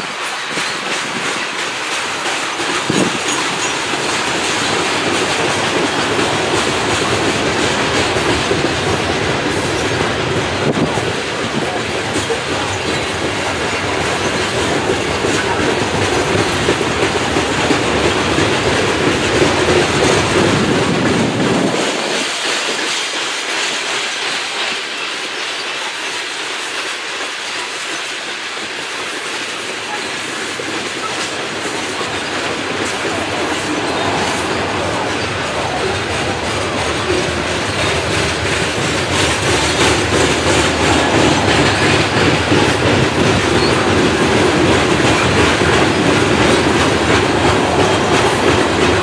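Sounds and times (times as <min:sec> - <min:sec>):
hopper cars rumbling on rails: 0:00.0 - 0:49.0.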